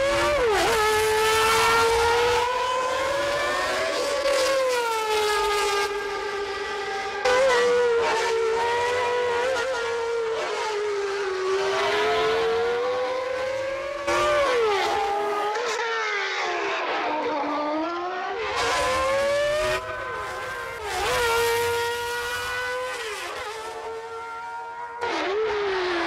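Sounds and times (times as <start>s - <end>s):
racing car engine at high revs: 0.0s - 26.0s.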